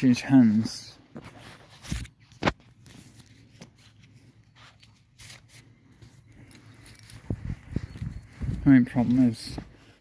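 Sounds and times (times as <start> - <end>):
phone rustling against hand: 0.3 - 10.0.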